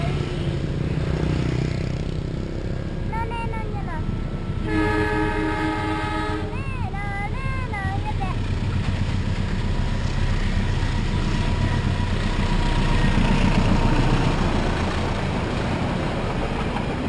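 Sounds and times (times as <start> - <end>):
diesel locomotive engine: 0.0 - 17.0
train coaches rumbling: 3.0 - 17.0.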